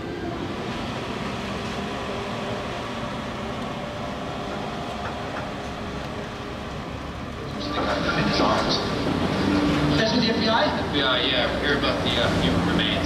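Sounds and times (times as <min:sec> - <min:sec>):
low engine hum: 0:00.0 - 0:13.0
tram cars rumbling: 0:00.0 - 0:13.0.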